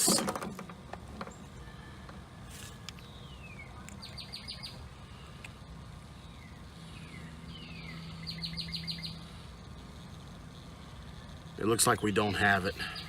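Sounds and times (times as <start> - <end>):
low steady hum: 0.0 - 13.0
songbird singing: 1.0 - 13.0.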